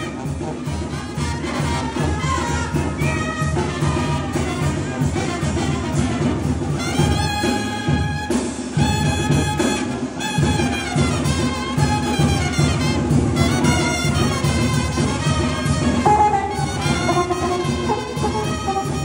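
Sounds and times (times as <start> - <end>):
brass music over low beat: 0.0 - 19.0.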